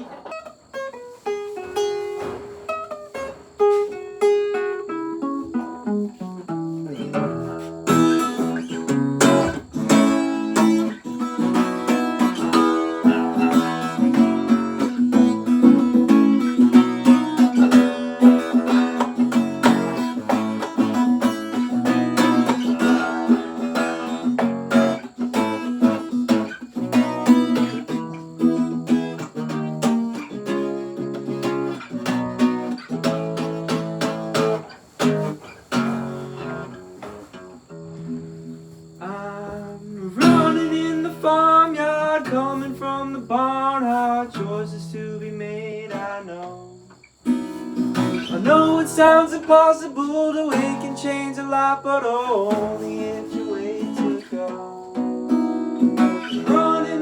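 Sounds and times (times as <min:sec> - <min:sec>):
guitar playing: 0:00.0 - 0:46.4, 0:47.2 - 0:57.0.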